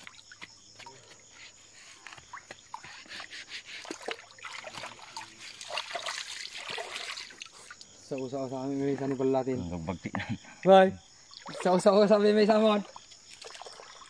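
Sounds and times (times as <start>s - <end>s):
shallow water splashing and trickling: 0.0s - 9.5s, 11.1s - 14.0s.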